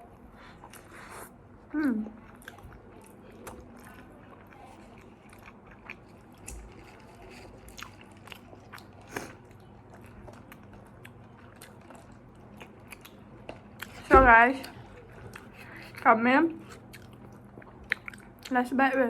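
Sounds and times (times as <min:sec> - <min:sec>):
chewing food: 0:00.0 - 0:19.0
food crunching: 0:02.1 - 0:16.0, 0:16.6 - 0:18.6.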